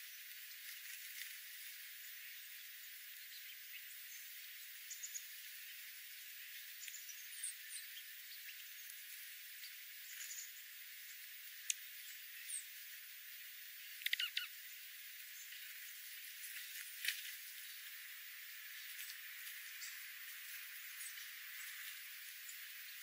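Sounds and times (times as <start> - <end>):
birds chipping: 0.0 - 23.0
steady hiss: 0.0 - 23.0.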